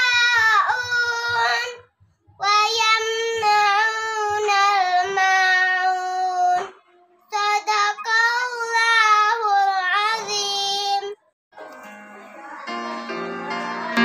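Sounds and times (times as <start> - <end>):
girl reciting melodically: 0.0 - 11.3.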